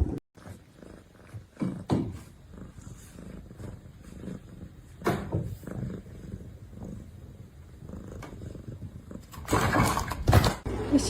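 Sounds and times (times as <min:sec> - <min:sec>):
cat purring: 0:00.0 - 0:10.2.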